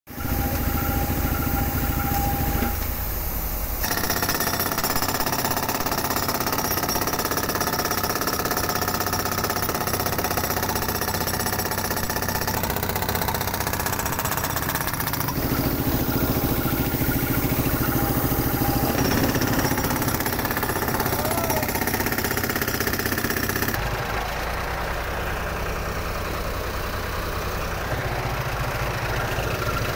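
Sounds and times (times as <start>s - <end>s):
engine running: 0.1s - 6.4s, 7.5s - 29.9s.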